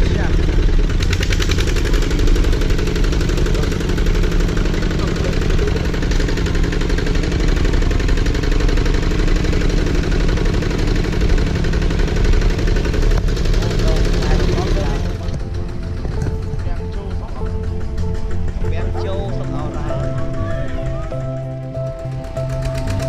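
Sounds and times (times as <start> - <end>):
walking tractor engine chugging: 0.0 - 23.0.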